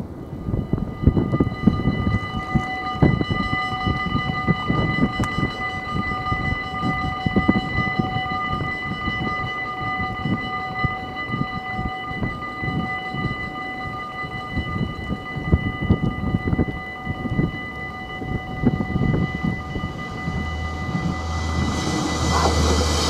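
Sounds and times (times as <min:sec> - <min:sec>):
level crossing warning bells: 0:00.0 - 0:23.0
wind buffeting microphone: 0:00.0 - 0:23.0.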